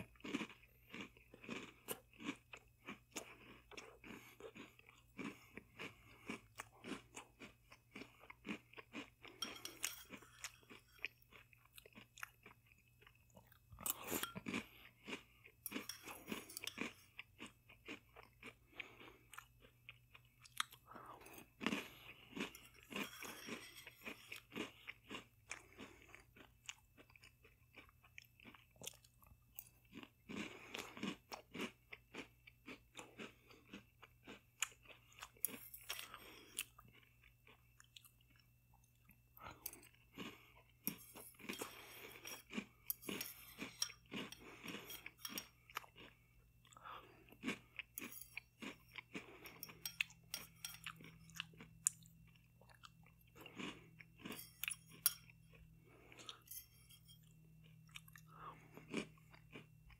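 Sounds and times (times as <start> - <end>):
chewing crunchy cereal: 0.0 - 59.9.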